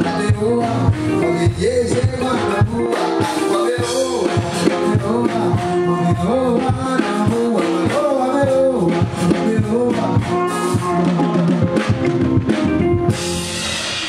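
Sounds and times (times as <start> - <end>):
person singing: 0.0 - 11.8
band playing: 0.0 - 14.0.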